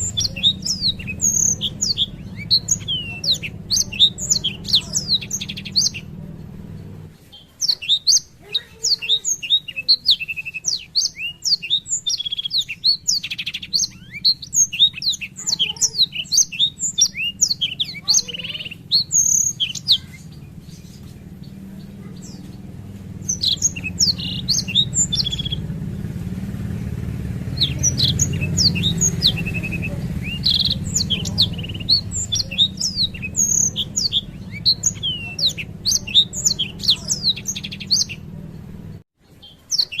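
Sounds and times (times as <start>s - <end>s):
steady low hum: 0.0s - 39.1s
canary singing trills: 0.0s - 40.0s.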